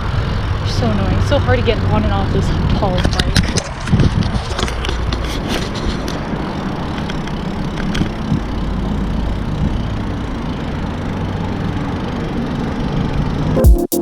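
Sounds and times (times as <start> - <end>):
street traffic rumble: 0.0 - 13.6
vehicle engine running nearby: 0.0 - 13.6.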